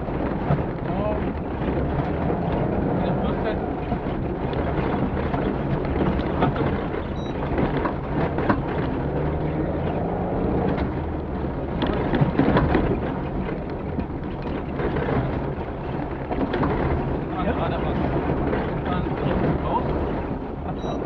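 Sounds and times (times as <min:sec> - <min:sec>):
engine drone: 0:00.0 - 0:21.0
sharp knocks and rattles: 0:00.0 - 0:21.0
tyres rumbling on rough ground: 0:00.0 - 0:21.0.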